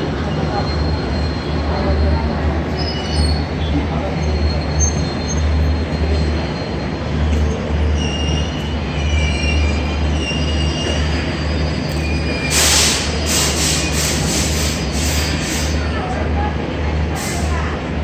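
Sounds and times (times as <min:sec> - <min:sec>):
train coaches rumbling past: 0:00.0 - 0:18.0
wheels squealing on rails: 0:00.0 - 0:18.0.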